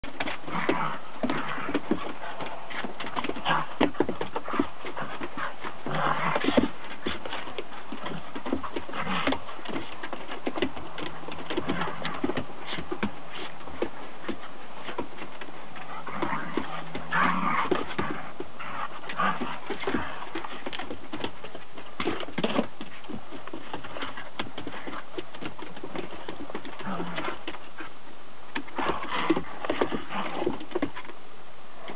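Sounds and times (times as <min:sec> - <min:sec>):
dogs play growling: 0:00.0 - 0:31.1.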